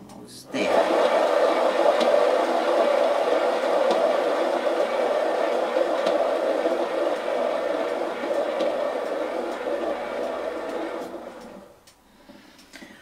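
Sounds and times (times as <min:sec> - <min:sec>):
turntable whirring: 0:00.0 - 0:12.4.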